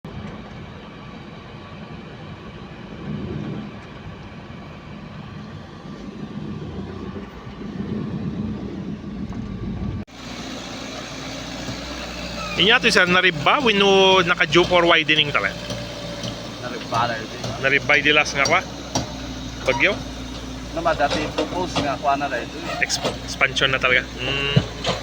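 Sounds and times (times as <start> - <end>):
engine hum: 0.0 - 25.0
heavy engine rumbling: 0.1 - 25.0.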